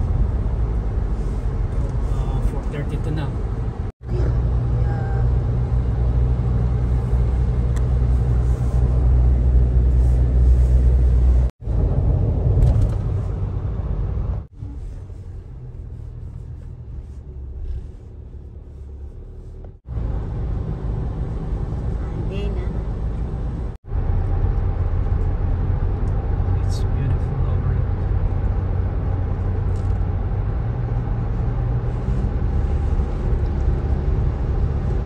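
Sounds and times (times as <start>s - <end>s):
car cabin road rumble: 0.0s - 35.0s.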